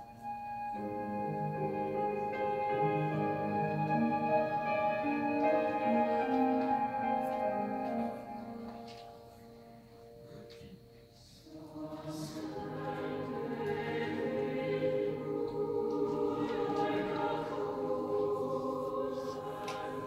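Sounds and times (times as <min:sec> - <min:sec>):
mixed choir singing: 0:00.2 - 0:09.4, 0:11.3 - 0:20.0.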